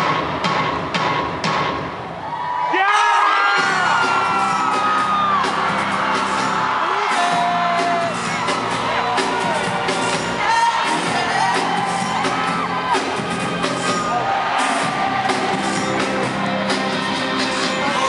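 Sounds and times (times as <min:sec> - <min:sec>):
crowd whooping and screaming: 0:02.0 - 0:18.0.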